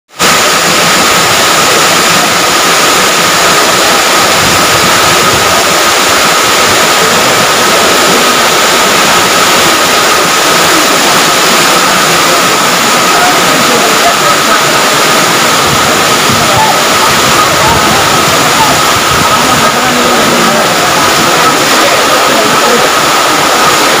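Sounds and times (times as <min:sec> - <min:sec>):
floodwater rushing: 0:00.1 - 0:24.0.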